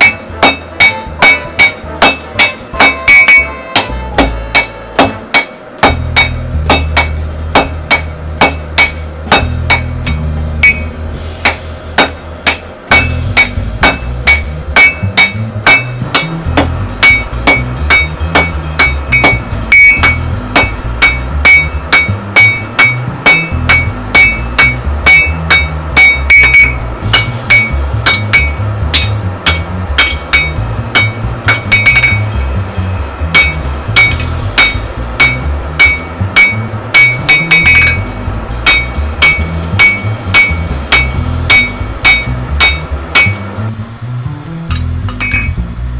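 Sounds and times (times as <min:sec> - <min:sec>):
hammer striking anvil: 0:00.0 - 0:43.8, 0:44.6 - 0:45.7
background music: 0:00.0 - 0:45.9.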